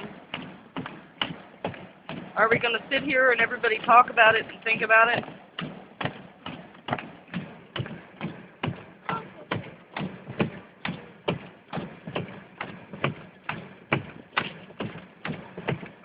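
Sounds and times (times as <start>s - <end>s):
steady tapping inside a car: 0.0s - 16.0s.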